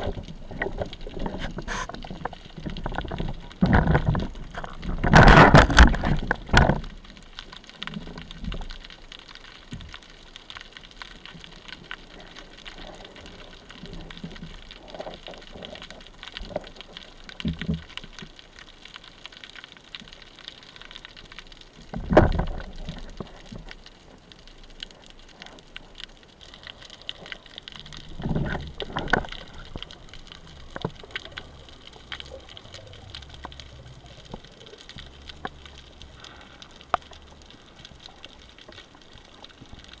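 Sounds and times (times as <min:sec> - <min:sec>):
water rushes: 0:00.0 - 0:18.4, 0:19.0 - 0:40.0
crackle of small underwater clicks: 0:00.0 - 0:40.0
low water hiss: 0:00.0 - 0:40.0.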